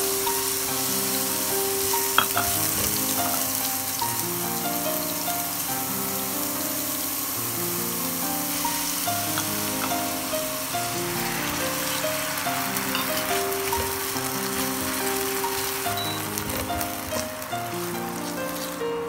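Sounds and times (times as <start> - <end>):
apple sizzling in a pan: 0.0 - 19.0
background music with held notes: 0.0 - 19.0.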